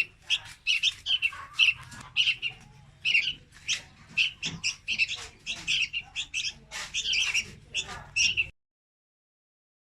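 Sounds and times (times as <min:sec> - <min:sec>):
bulbuls harsh chirps: 0:00.0 - 0:08.5.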